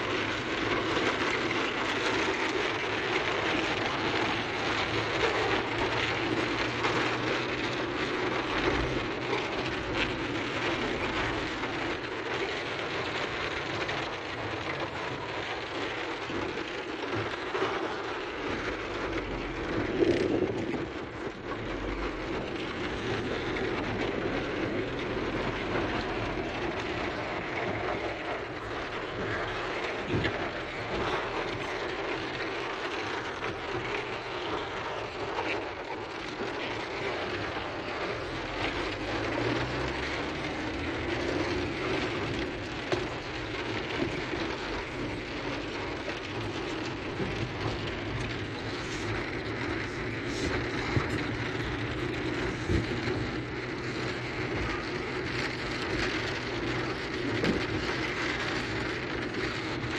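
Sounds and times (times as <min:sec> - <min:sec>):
heavy rain on car: 0:00.0 - 0:59.9
tyres on wet road: 0:00.0 - 0:59.9.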